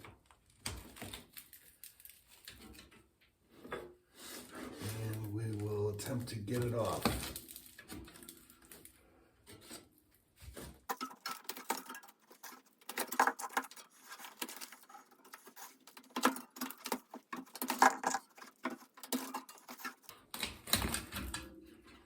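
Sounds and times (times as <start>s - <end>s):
brittle rubber crackling and scraping: 0.0s - 22.0s.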